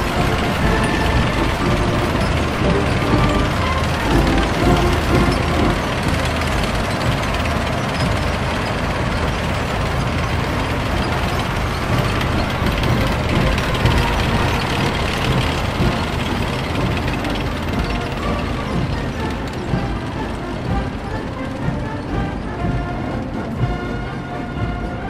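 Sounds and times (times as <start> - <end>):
heavy vehicles rumbling and clattering: 0.0 - 25.0.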